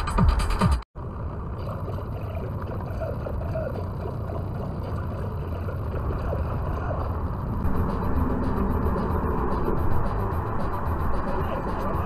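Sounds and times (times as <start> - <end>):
car road and engine rumble: 1.0 - 12.0.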